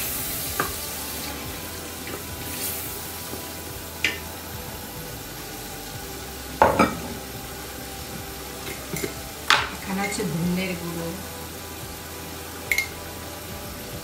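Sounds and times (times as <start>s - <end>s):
spices sizzling in oil: 0.0s - 14.0s.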